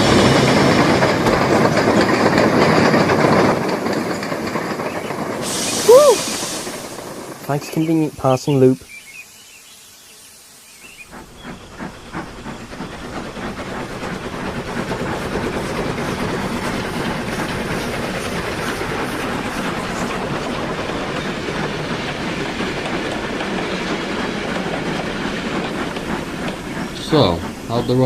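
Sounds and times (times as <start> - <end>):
train wheels clattering over rail joints: 0.0 - 8.6, 10.8 - 28.0
steam hissing: 0.0 - 28.0.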